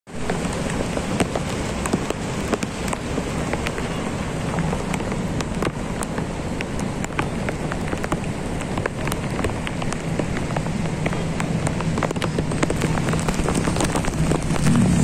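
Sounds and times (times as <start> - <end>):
heavy rain: 0.1 - 15.0
raindrops ticking: 0.1 - 15.0.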